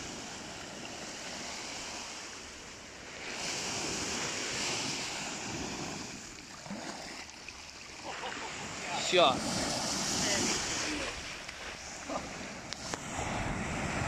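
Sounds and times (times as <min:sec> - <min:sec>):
small waves breaking on sand: 0:00.0 - 0:14.0.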